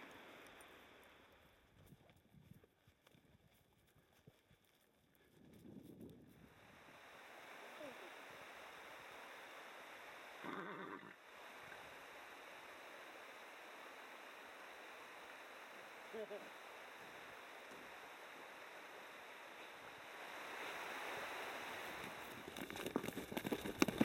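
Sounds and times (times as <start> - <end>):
steady rushing hiss: 0.0 - 24.0.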